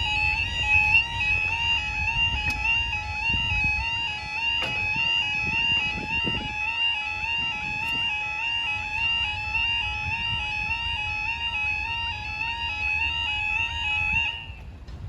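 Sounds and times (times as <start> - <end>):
level crossing alarm: 0.0 - 15.0.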